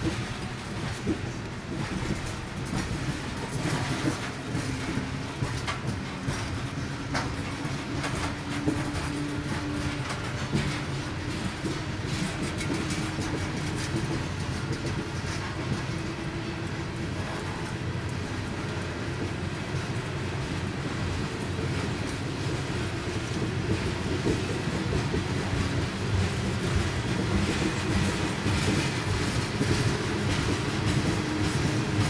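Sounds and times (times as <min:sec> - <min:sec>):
train wheels rumbling on rail: 0:00.0 - 0:32.0
wheels clicking over rail joints: 0:00.0 - 0:32.0.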